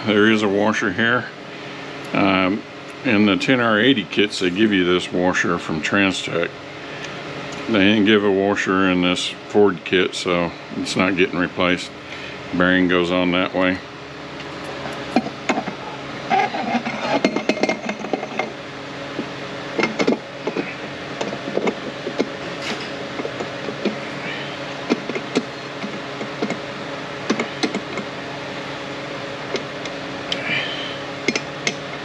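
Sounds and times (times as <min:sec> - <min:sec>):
steady shop hum: 0:00.0 - 0:32.0.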